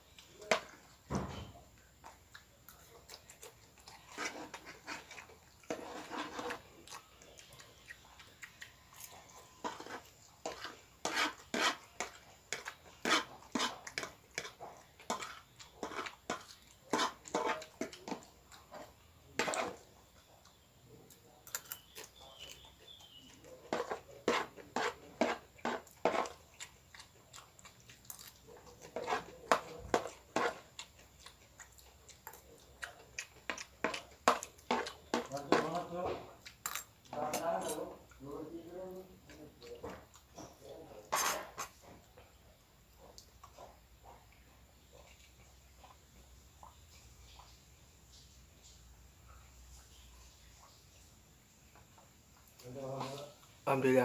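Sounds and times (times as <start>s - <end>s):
wet chewing and slurping: 1.8s - 38.3s, 39.2s - 53.6s.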